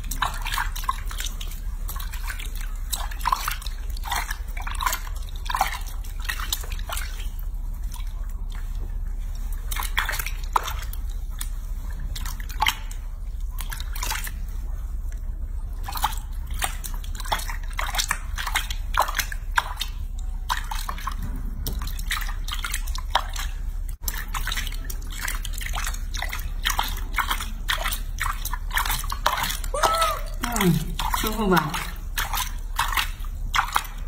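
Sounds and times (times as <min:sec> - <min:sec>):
water splashing in sink: 0:00.0 - 0:34.0.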